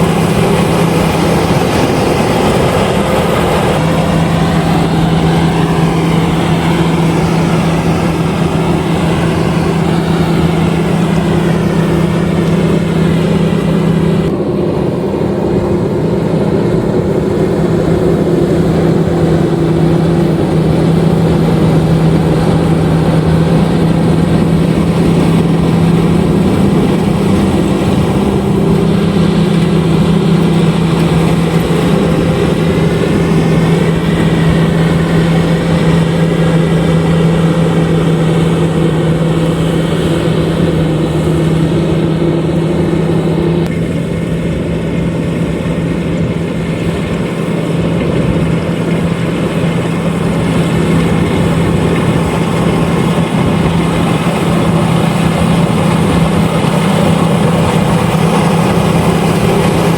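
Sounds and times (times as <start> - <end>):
combine harvester engine drone: 0.0 - 59.9
threshing machinery noise: 0.0 - 59.9.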